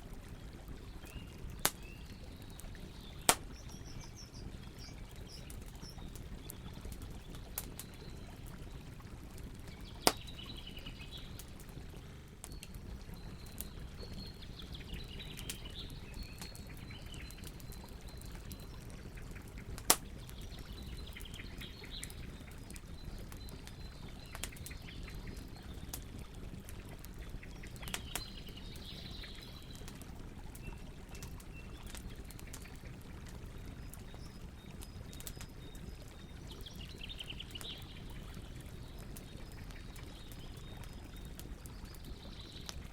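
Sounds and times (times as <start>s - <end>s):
campfire crackling: 0.0s - 42.9s
birds singing: 0.4s - 8.9s, 9.5s - 11.7s, 12.4s - 26.5s, 27.2s - 29.9s, 33.6s - 42.9s.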